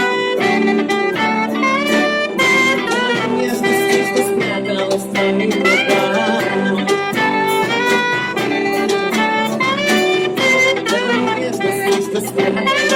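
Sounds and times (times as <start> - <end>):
live band playing pop instrumental: 0.0 - 12.9.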